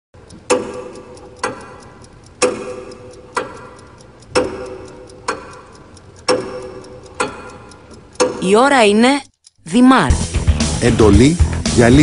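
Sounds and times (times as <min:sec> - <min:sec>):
clock ticking: 0:00.2 - 0:12.0.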